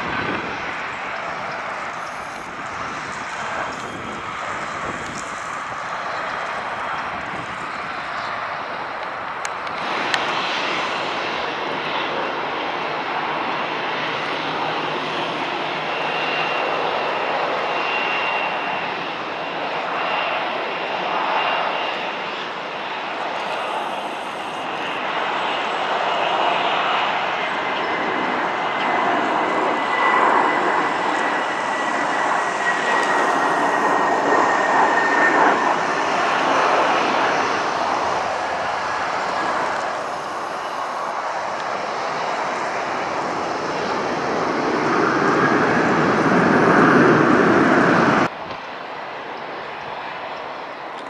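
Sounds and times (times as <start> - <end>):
jet engines rushing: 0.0 - 51.0
faint jet engine whistle: 9.7 - 51.0.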